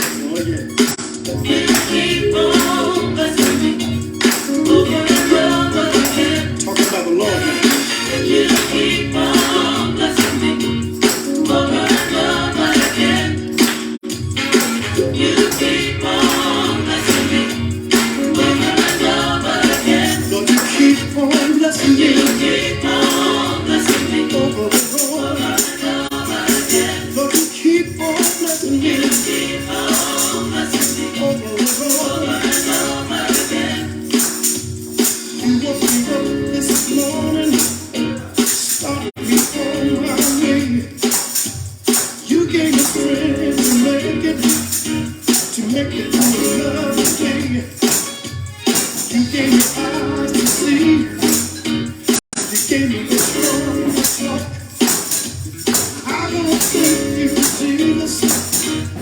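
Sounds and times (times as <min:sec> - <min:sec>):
gospel church music with singing: 0:00.0 - 0:59.0
shaken percussion beat: 0:00.0 - 0:59.0.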